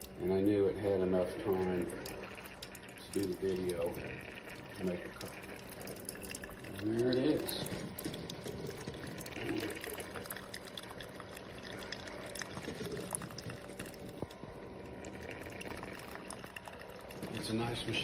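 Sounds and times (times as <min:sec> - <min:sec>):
coffee pouring into cup: 0:00.0 - 0:18.0
drips and pops: 0:00.0 - 0:18.0
faint steady hum: 0:00.0 - 0:18.0.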